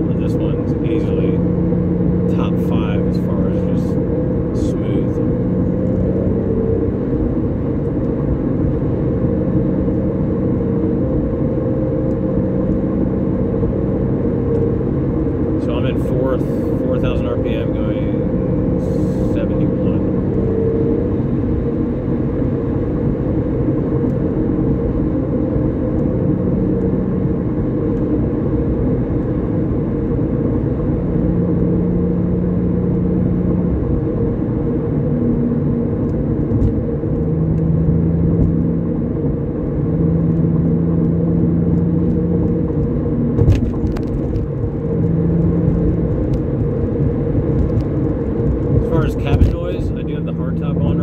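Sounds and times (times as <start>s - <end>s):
car engine drone in cabin: 0.0s - 51.0s.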